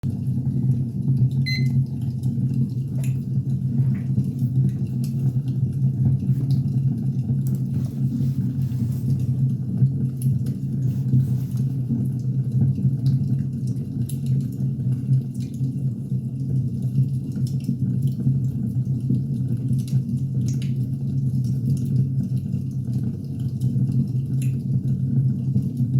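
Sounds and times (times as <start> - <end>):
low rumble of flames: 0.1 - 25.9.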